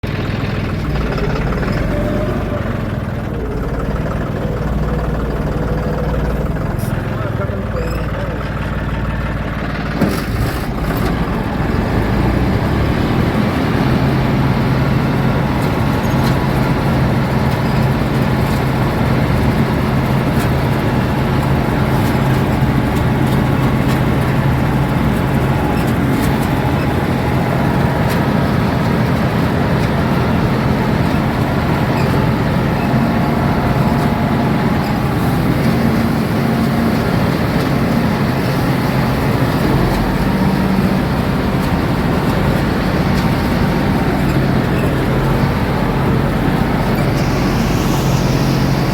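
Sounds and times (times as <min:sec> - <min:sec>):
combine harvester droning: 0:00.0 - 0:48.9.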